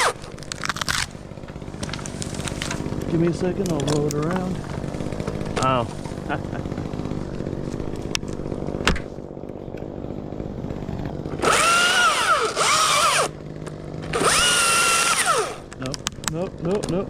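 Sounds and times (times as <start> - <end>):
chainsaw idling and revving: 0.0 - 17.0.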